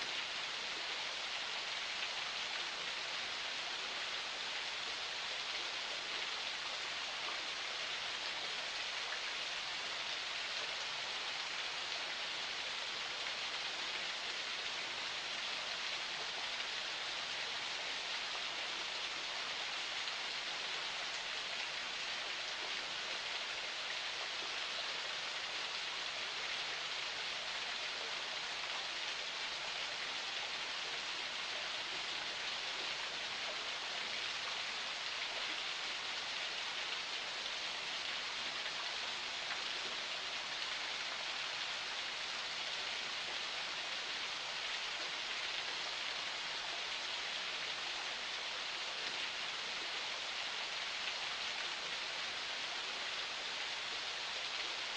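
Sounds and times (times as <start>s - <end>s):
spring water flowing and splashing: 0.0s - 54.9s.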